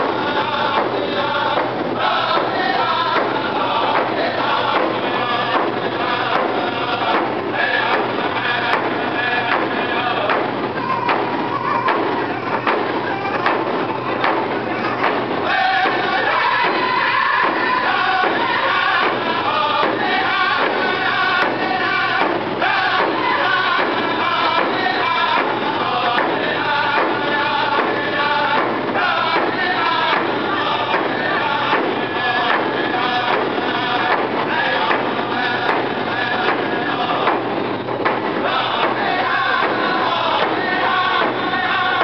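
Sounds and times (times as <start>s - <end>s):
group singing in unison: 0.0s - 42.0s
hand drums beating: 0.0s - 42.0s.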